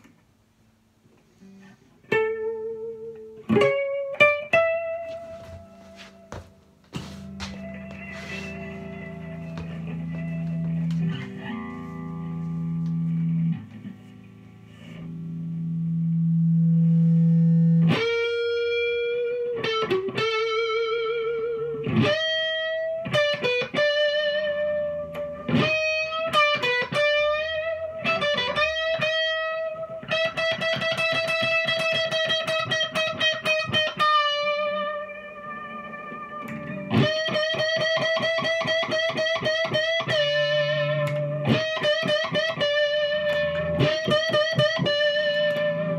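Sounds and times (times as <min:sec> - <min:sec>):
electric guitar melody: 0:01.1 - 0:45.9.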